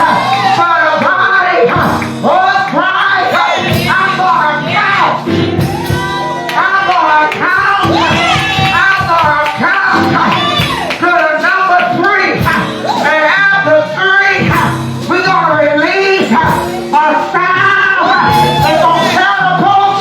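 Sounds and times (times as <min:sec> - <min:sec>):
instrumental backing music: 0:00.0 - 0:20.0
singing voices: 0:00.0 - 0:20.0.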